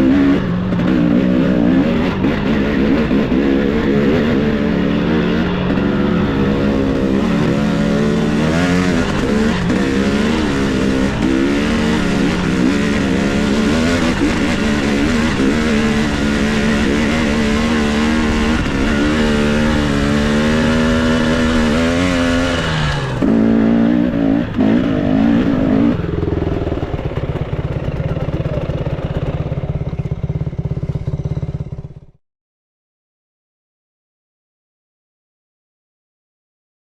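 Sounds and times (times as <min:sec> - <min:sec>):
dirt bike engine revving: 0:00.0 - 0:32.1.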